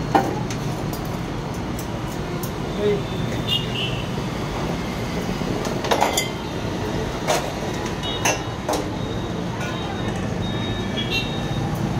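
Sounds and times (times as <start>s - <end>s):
street traffic rumble: 0.0s - 11.9s.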